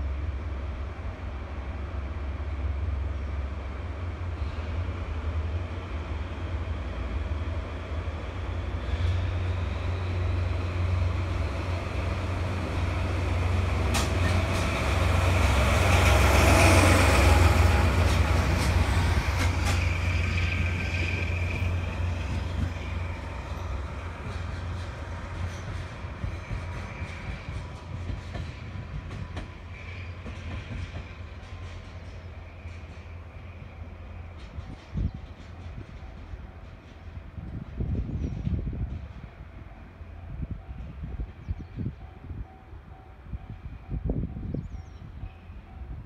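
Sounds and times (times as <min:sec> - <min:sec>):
diesel locomotive engine drone: 0:00.0 - 0:46.0.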